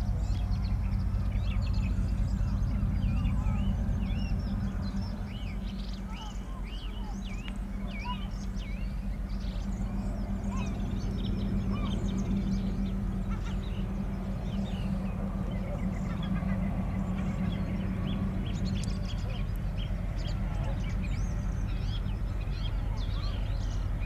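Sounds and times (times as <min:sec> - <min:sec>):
birds chirping: 0:00.0 - 0:24.0
distant locomotive engine drone: 0:00.0 - 0:24.0.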